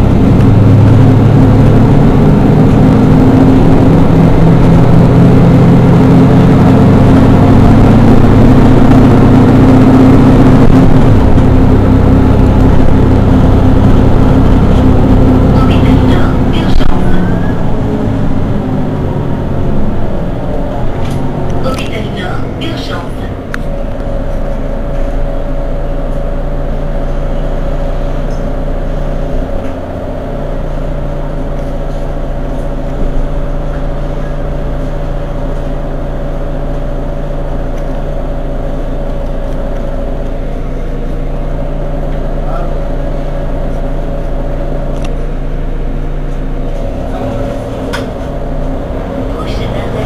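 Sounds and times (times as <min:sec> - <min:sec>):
bus engine idling hum: 0:00.0 - 0:50.0
steady whine: 0:00.0 - 0:50.0.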